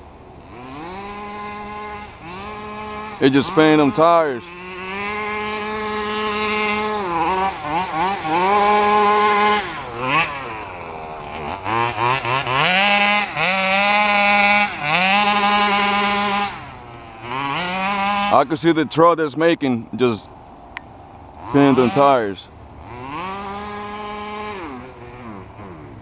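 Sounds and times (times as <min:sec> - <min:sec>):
model truck engine revving: 0:00.0 - 0:18.8, 0:21.4 - 0:26.0
tires spinning: 0:00.0 - 0:20.3, 0:20.9 - 0:26.0.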